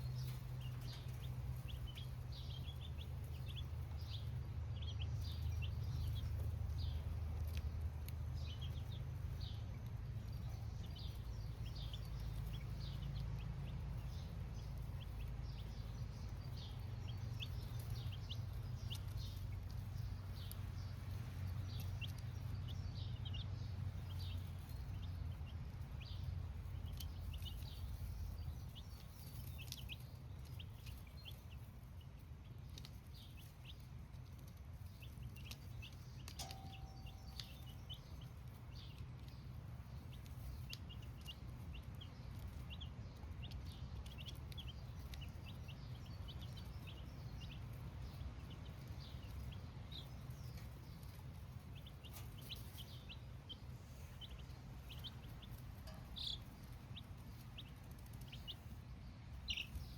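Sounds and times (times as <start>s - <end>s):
baby chicks cheeping: 0.0s - 59.9s.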